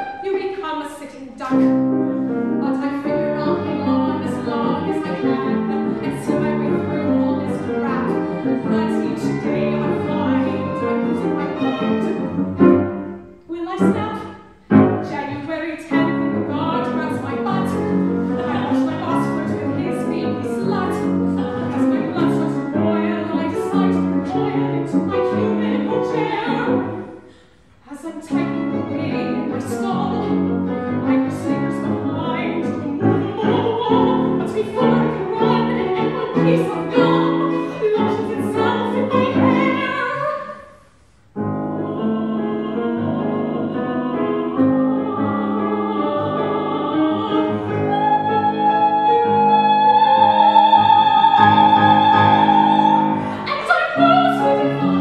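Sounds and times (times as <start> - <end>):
violin: 0.0 - 40.7, 41.4 - 55.0
grand piano: 0.0 - 55.0.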